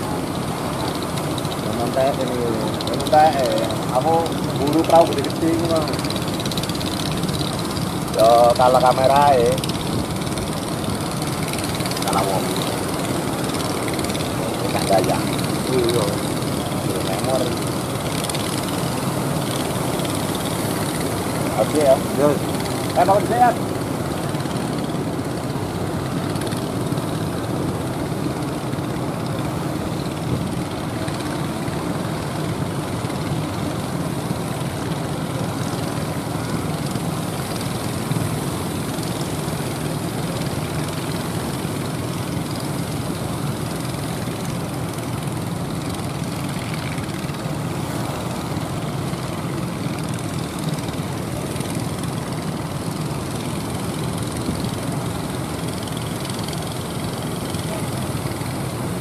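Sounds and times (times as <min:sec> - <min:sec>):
boat motors running: 0:00.0 - 0:59.0
surf washing: 0:00.0 - 0:59.0.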